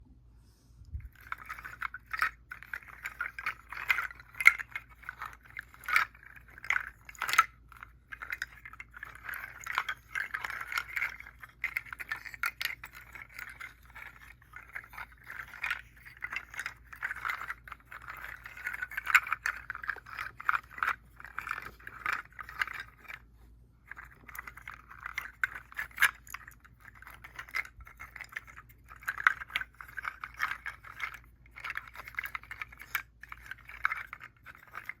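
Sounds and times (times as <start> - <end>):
seed shell rattle: 1.0 - 23.2, 23.8 - 35.0.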